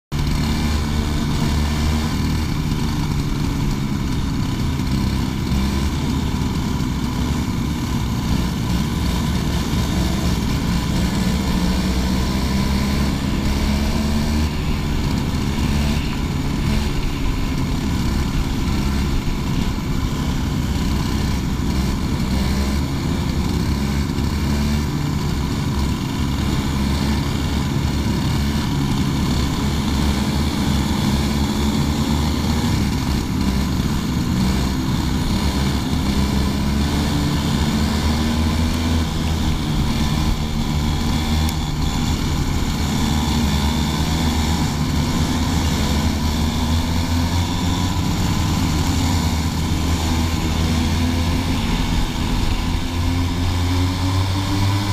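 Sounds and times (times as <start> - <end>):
racing kart engine: 0.1 - 54.9.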